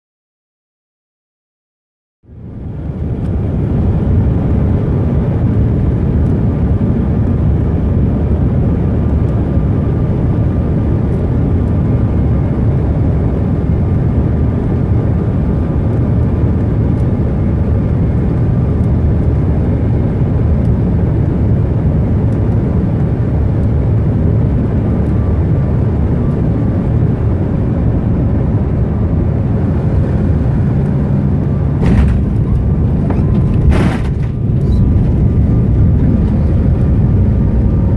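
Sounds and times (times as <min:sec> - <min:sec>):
jet cabin rumble: 0:02.3 - 0:37.9.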